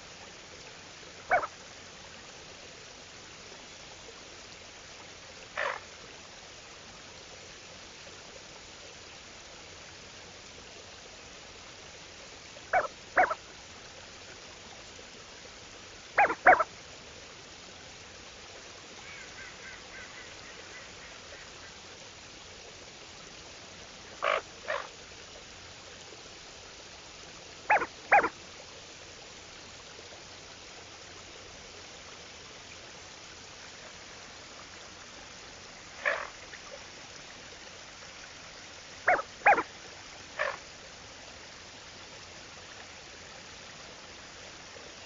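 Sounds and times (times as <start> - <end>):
open water hiss: 0.0 - 45.0.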